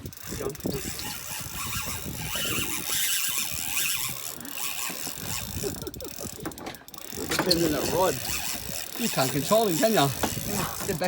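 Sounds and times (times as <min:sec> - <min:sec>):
fishing reel drag screaming: 0:00.2 - 0:05.9, 0:06.9 - 0:11.0.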